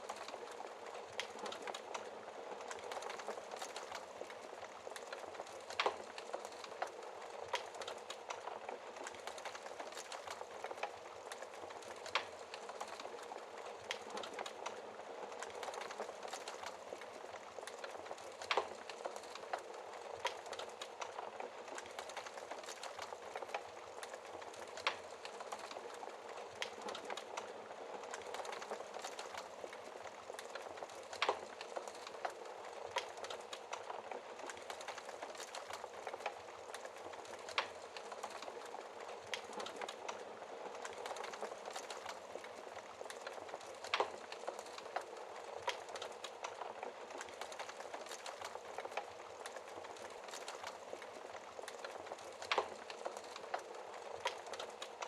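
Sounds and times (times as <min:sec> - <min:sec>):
wood fire crackling in fireplace: 0:00.0 - 0:55.0.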